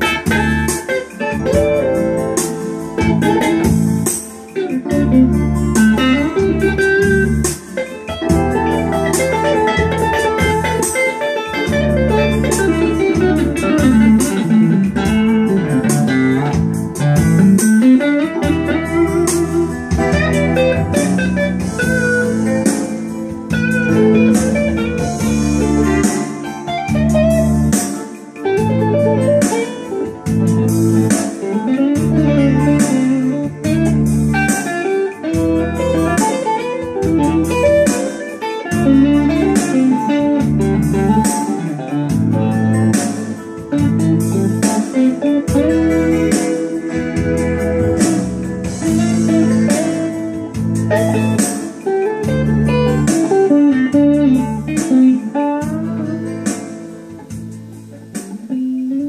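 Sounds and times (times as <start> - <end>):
electric guitar lead with bends: 0.0 - 59.0
keyboard backing of bass and drums: 0.0 - 59.0.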